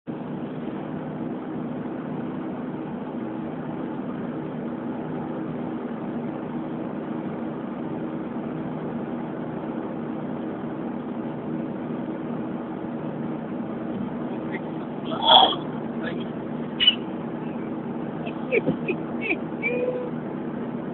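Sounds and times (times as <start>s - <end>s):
road noise: 0.1s - 20.9s
vehicle engine drone: 0.1s - 20.9s.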